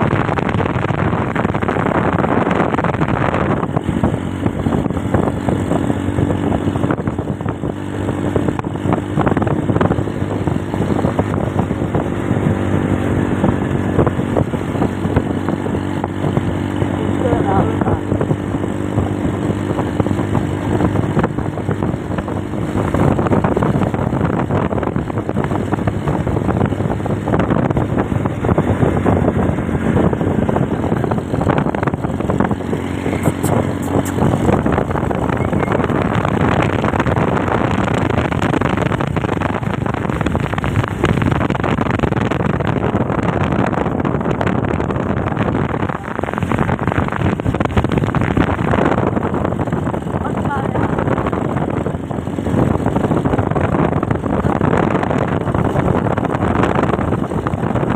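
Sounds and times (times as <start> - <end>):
motorcycle running: 0.0 - 57.9
wind rush on microphone: 0.0 - 57.9.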